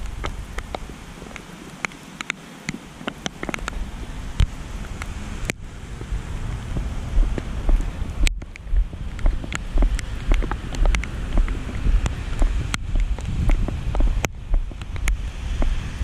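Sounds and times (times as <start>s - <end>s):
wind buffeting microphone: 0.0s - 2.0s, 2.6s - 16.0s
rain drops ticking on microphone: 0.0s - 16.0s
rain hiss: 0.0s - 16.0s.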